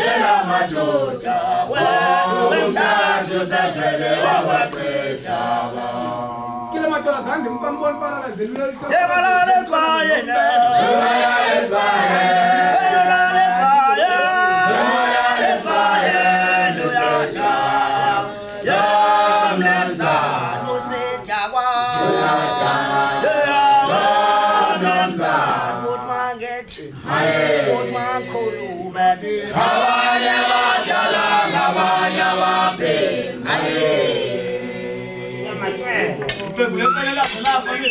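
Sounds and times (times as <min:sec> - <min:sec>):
choir singing in harmony: 0:00.0 - 0:07.5, 0:09.1 - 0:26.3, 0:26.9 - 0:36.6.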